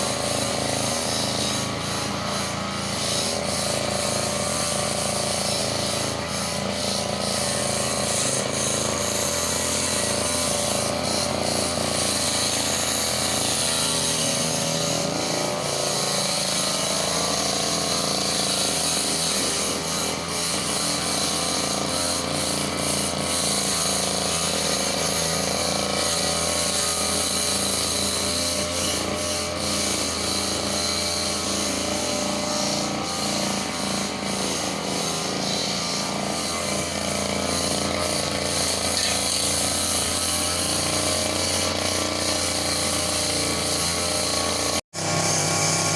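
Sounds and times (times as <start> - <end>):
brush cutter engine running: 0.0 - 45.9.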